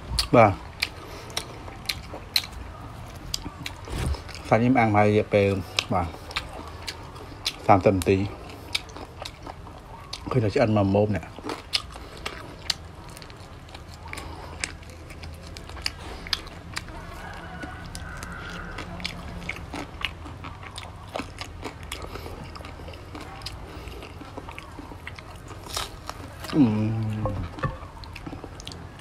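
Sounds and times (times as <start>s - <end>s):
biting and chewing pork rib: 0.0s - 29.0s.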